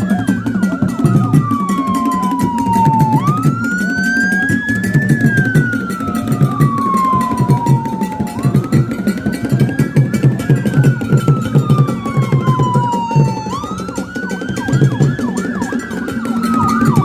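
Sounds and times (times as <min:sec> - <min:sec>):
music with steady drum beat: 0:00.0 - 0:17.0
siren wailing: 0:00.0 - 0:17.0.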